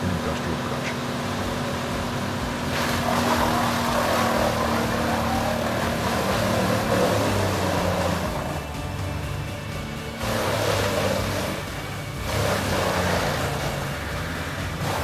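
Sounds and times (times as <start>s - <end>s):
rough rush of chipping noise: 0.0s - 15.0s
wood chipper engine hum: 0.0s - 15.0s.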